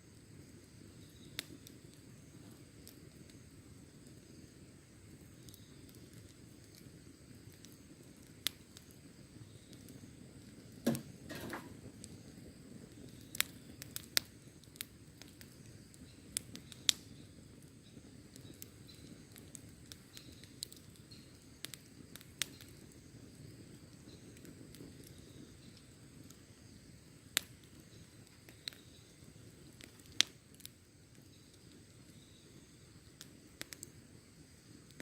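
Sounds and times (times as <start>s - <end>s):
campfire crackling and popping: 0.0s - 35.0s
rush of burning fire: 0.0s - 35.0s.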